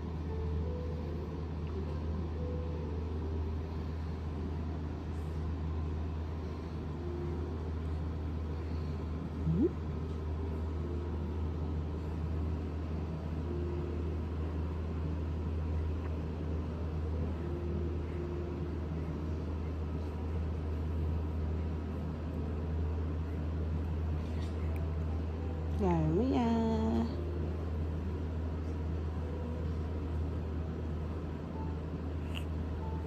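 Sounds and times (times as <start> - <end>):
low droning hum: 0.0 - 33.0.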